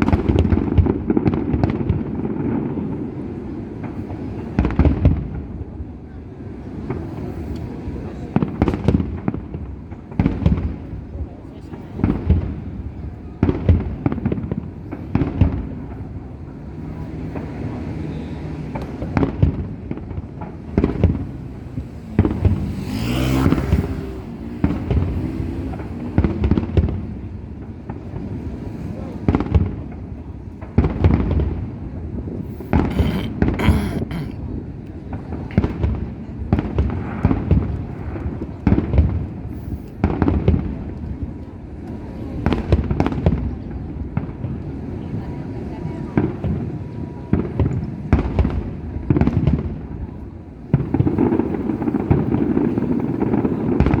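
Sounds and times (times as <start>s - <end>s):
firework crackling: 0.0s - 54.0s.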